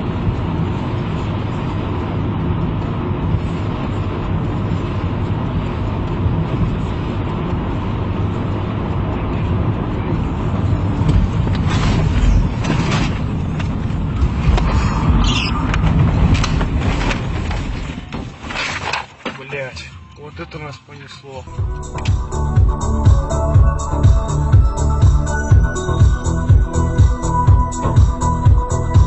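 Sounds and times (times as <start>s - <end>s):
car engine and tyre drone: 0.0s - 29.0s.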